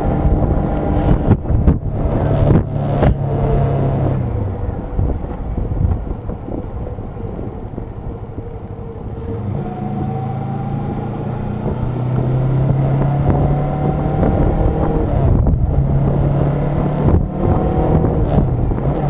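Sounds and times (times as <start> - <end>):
motorcycle engine: 0.0 - 19.0
road rumble: 0.0 - 19.0.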